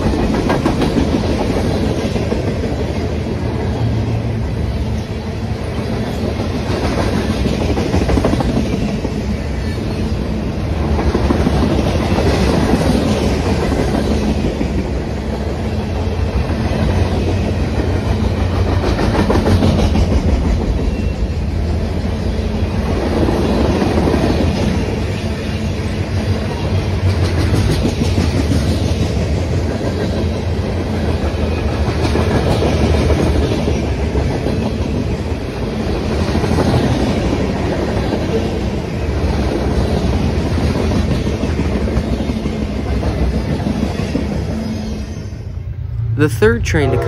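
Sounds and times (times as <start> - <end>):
freight train rumble: 0.0 - 47.0.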